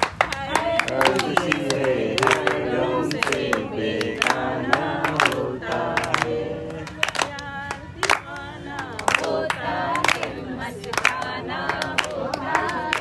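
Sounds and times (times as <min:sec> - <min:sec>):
group singing unaccompanied: 0:00.0 - 0:13.0
hand claps: 0:00.0 - 0:13.0.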